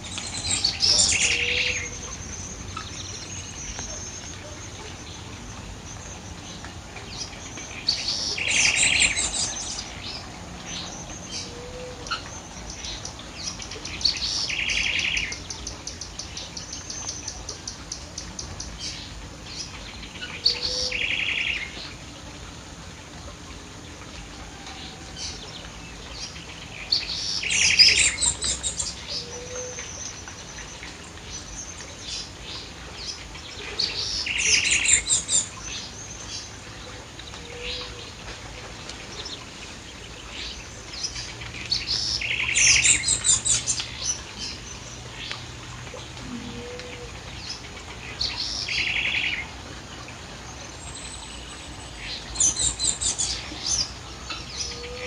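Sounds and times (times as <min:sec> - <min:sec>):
songbird singing: 0:00.0 - 0:22.3, 0:23.2 - 0:55.0.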